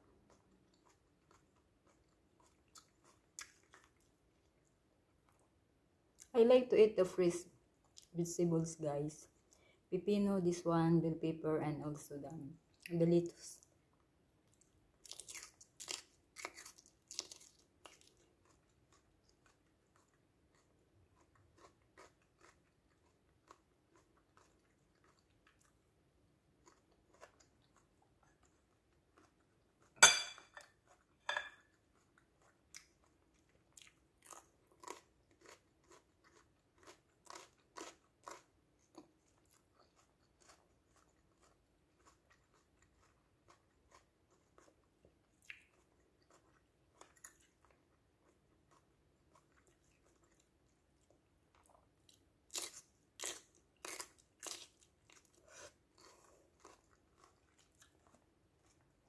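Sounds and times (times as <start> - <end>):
crunching and chewing pepper: 0.0 - 5.6, 13.9 - 59.0.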